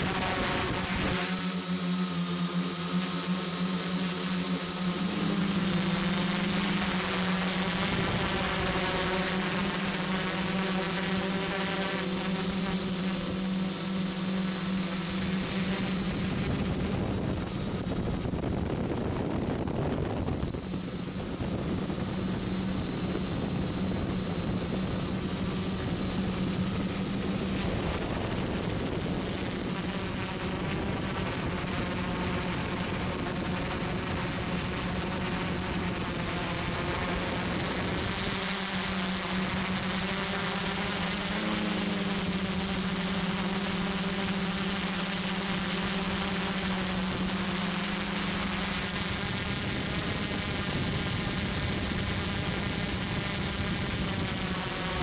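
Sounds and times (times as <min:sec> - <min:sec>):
model aircraft motors humming: 0:00.0 - 0:55.0.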